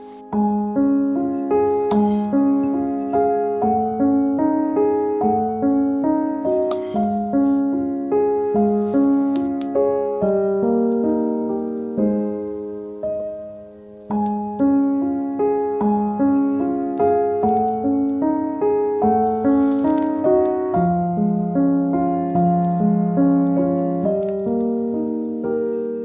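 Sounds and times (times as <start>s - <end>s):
solo piano music: 0.0s - 26.0s.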